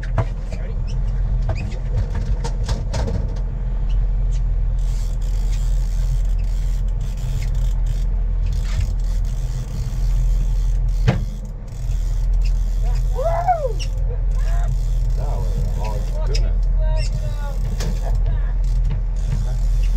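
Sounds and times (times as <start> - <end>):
boat engine drone: 0.0 - 19.9.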